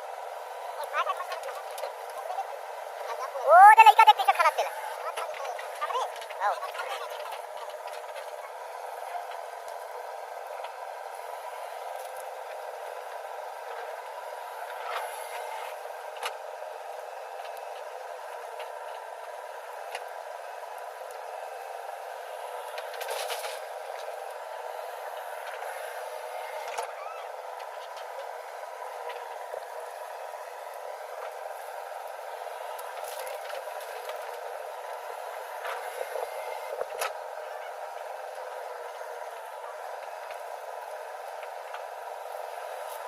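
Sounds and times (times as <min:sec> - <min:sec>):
heavy machinery engine running: 0:00.0 - 0:43.0.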